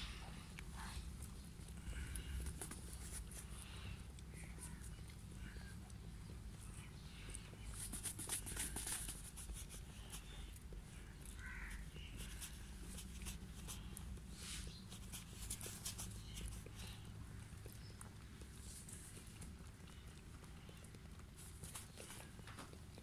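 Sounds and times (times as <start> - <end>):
goat kids suckling clicks: 0.5 - 23.0.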